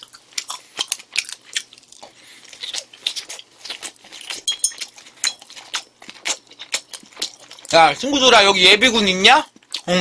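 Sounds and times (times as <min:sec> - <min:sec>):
person chewing food: 0:00.0 - 0:07.9, 0:09.4 - 0:10.0.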